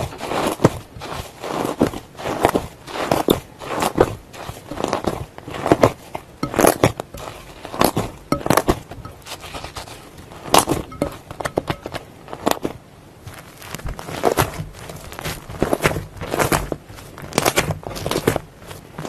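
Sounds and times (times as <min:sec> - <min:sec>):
slime crackling and squelching: 0:00.0 - 0:19.0.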